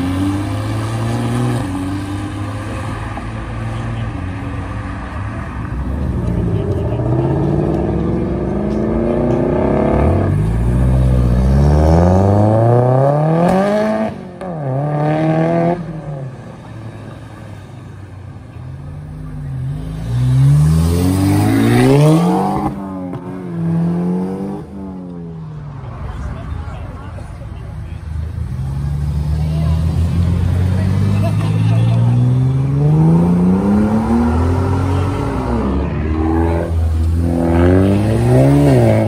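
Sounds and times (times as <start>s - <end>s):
car engine accelerating: 0.0s - 17.4s, 18.7s - 25.2s, 28.1s - 39.0s.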